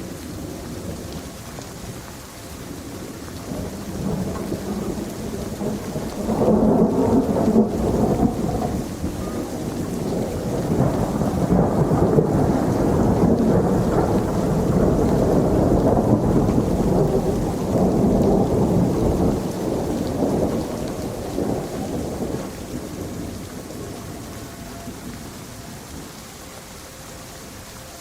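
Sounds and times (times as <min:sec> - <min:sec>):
thunder rumbling: 0:00.0 - 0:27.9
steady rain: 0:00.0 - 0:28.0.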